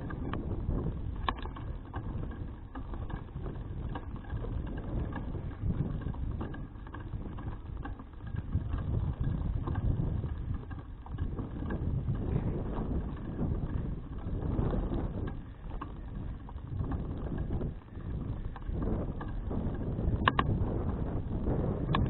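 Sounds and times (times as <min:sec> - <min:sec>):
faint ticks: 0:00.0 - 0:22.0
wind rumbling on microphone: 0:00.0 - 0:22.0.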